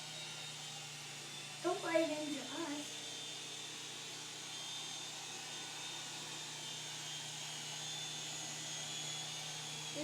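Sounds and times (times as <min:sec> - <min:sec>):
toy helicopter whirring: 0:00.0 - 0:10.0.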